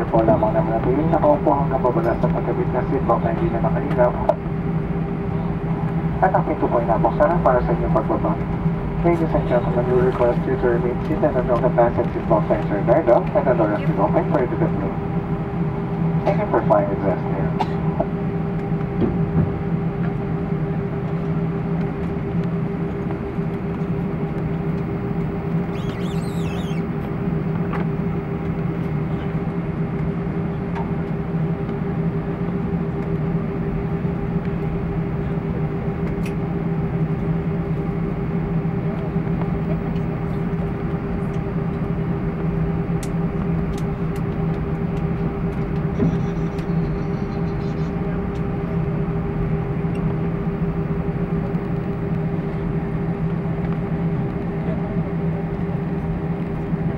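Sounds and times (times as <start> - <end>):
jet engines droning at idle: 0.0 - 56.9.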